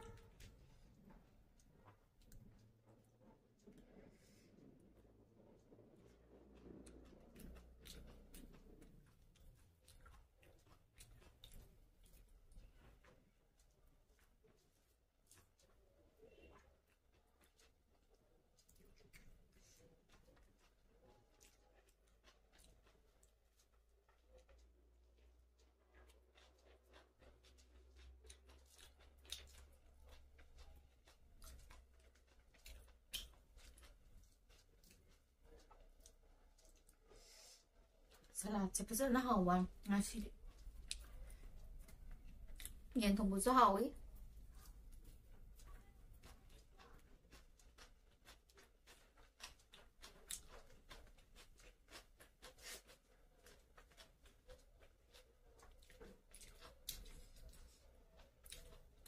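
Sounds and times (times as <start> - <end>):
chewing: 0.0 - 59.0
fingers mixing food on plate: 0.0 - 59.0.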